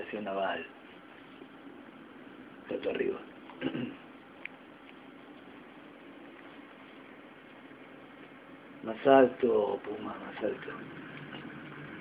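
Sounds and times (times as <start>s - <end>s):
room hum and hiss: 0.0s - 12.0s.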